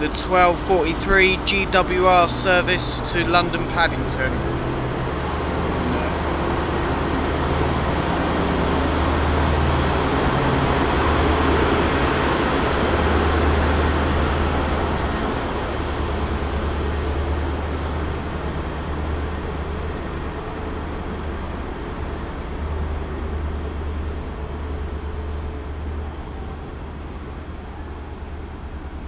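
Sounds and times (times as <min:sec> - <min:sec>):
diesel train engine drone: 0:00.0 - 0:29.0.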